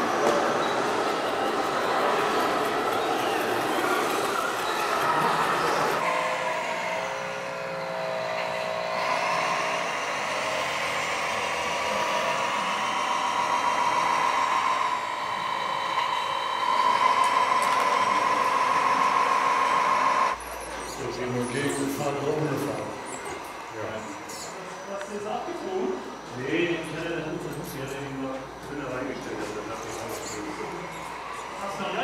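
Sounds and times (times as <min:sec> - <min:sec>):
excavator hydraulic whine: 0:00.0 - 0:25.2, 0:27.8 - 0:32.0.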